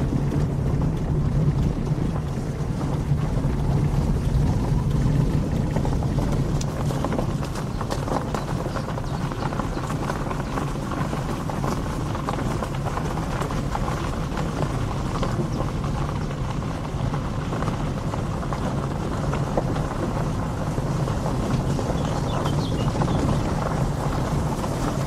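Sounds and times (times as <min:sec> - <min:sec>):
engine drone: 0:00.0 - 0:25.0
tyres crunching over gravel: 0:00.0 - 0:25.0.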